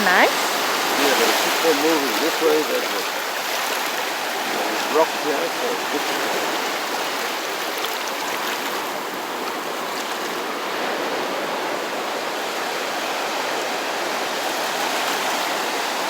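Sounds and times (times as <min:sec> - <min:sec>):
sea surf washing over rocks: 0:00.0 - 0:16.0.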